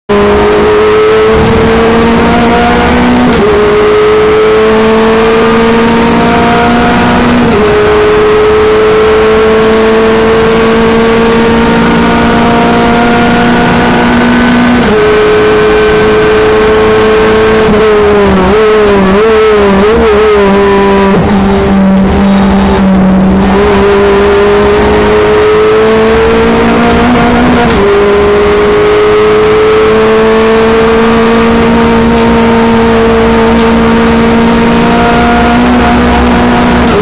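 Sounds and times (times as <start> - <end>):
race car engine at full throttle: 0.0 - 37.0.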